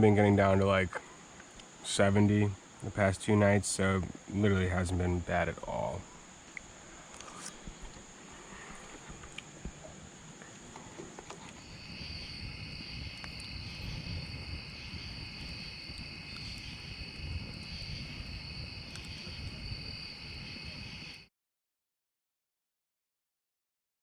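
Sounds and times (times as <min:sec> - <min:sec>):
night insects chorus: 0:00.0 - 0:21.3.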